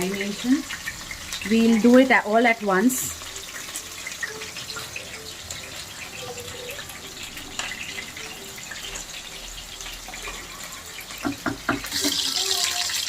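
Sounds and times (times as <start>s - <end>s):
potatoes and onions frying in oil: 0.0s - 13.0s.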